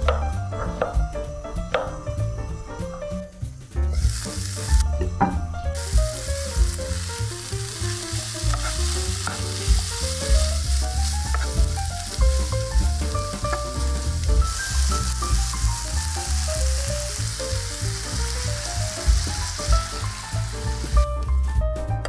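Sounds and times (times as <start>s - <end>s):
food sizzling in a pan: 0.0s - 21.3s.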